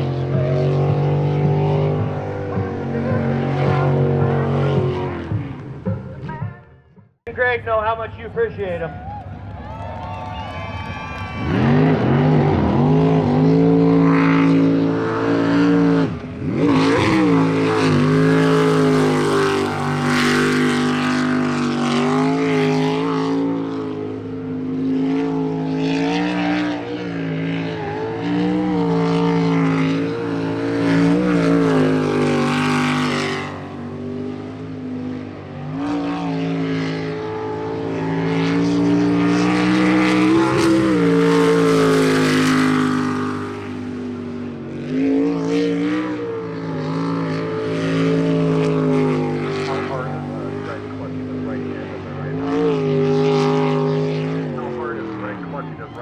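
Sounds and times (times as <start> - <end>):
jet boat engine revving: 0.0 - 6.4, 7.3 - 56.0.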